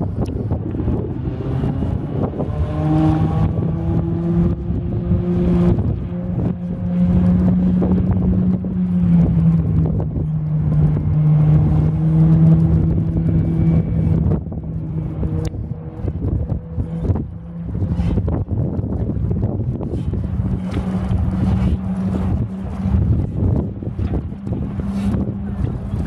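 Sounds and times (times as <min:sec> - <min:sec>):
boat engine running: 0:00.0 - 0:26.0
wind rumble on microphone: 0:00.0 - 0:26.0.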